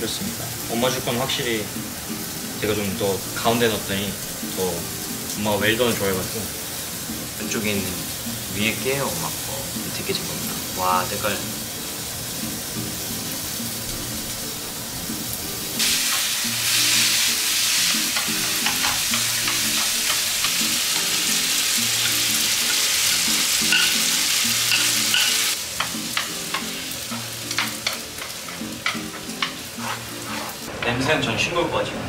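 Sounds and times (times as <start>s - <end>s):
food sizzling in a frying pan: 0.0s - 30.9s
faint background music: 0.0s - 32.0s.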